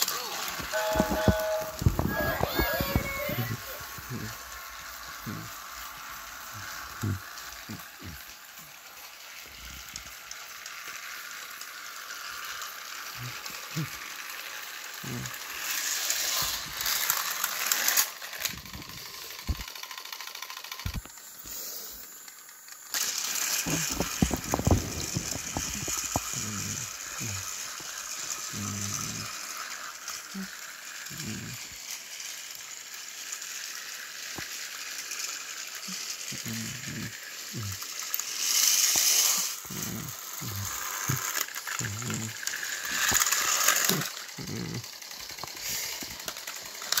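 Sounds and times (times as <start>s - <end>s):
toy train motor whirring: 0.0s - 47.0s
toy train rattling on track: 0.0s - 47.0s.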